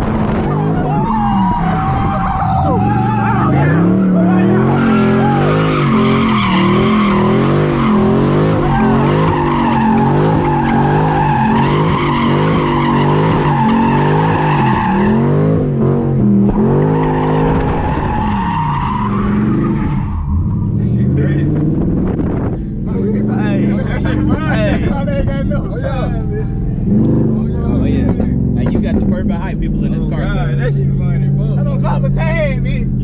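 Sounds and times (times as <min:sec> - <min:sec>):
car engine revving: 0:00.0 - 0:33.0
tires squealing: 0:00.0 - 0:33.0.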